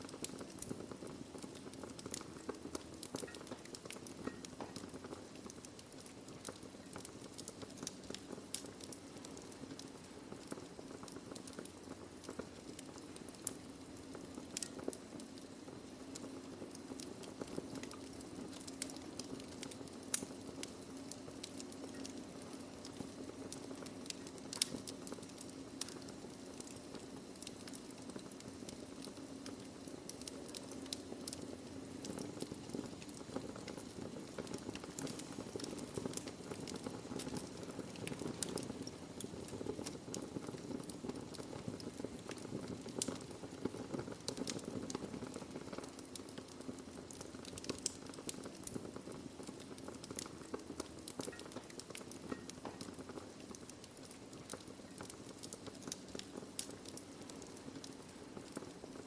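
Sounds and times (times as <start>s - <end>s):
burning logs crackling and popping: 0.0s - 59.0s
wood fire hissing: 0.0s - 59.0s.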